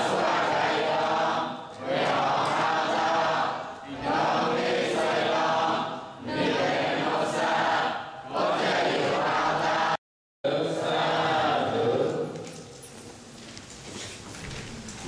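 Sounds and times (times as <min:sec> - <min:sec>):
congregation chanting in unison: 0:00.0 - 0:12.4.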